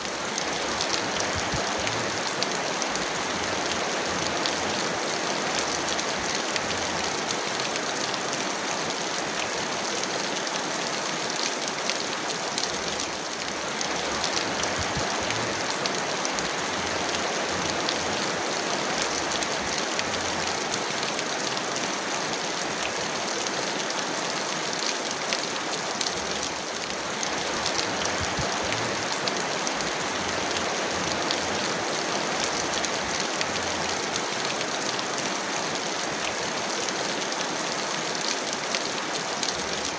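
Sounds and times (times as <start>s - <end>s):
heavy rain hissing: 0.0s - 39.9s
raindrops pattering: 0.0s - 39.9s.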